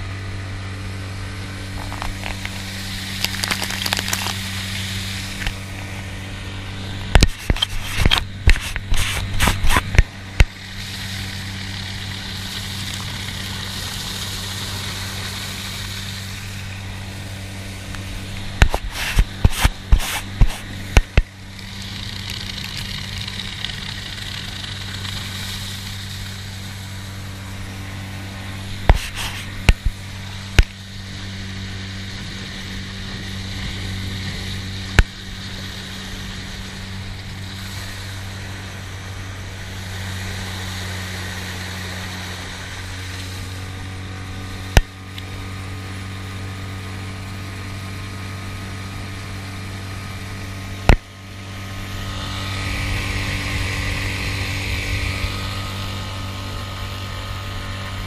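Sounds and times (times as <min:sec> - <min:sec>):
outboard motor running: 0:00.0 - 0:58.0
water noise: 0:00.0 - 0:58.0.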